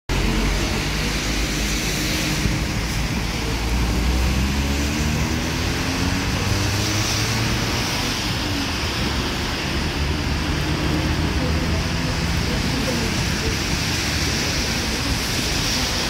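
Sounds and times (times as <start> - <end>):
rain hissing on wet road: 0.1 - 16.0
tyres swishing through water: 0.1 - 16.0
vehicle engines passing: 0.1 - 16.0.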